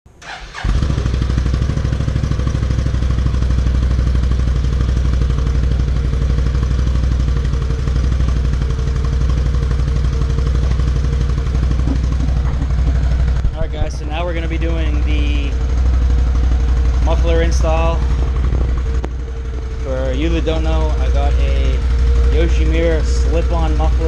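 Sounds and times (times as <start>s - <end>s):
atv engine idling: 0.2s - 24.0s.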